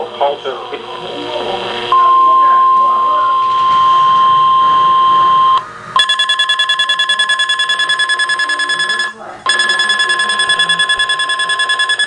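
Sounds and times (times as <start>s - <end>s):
steady loud warning tone: 0.0s - 12.0s
fast-pulsing electronic alarm beeping: 2.0s - 12.0s.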